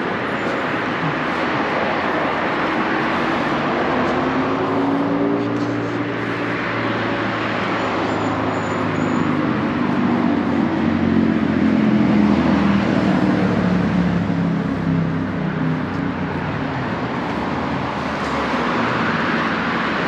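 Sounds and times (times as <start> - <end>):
cars driving past: 0.0 - 20.0
vehicle engine hum: 0.0 - 20.0.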